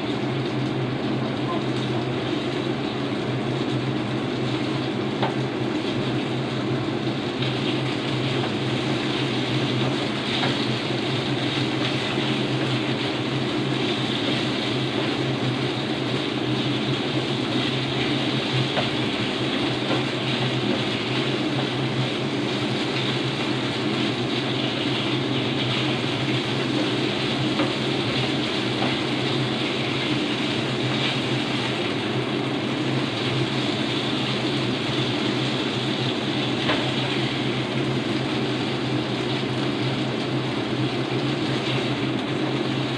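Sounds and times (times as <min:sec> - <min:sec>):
steady low hum: 0:00.0 - 0:42.9
beef sizzling in frying pan: 0:02.2 - 0:42.9.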